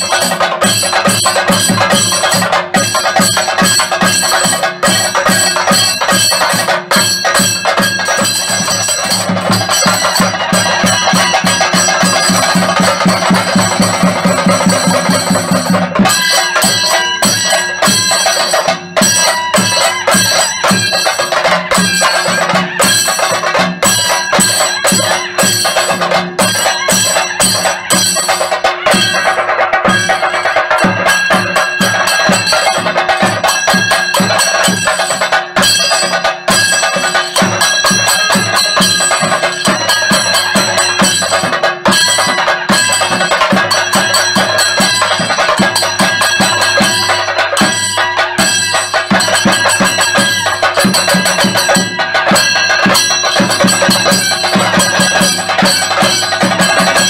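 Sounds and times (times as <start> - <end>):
drums beaten in a fast rhythm: 0.0 - 57.0.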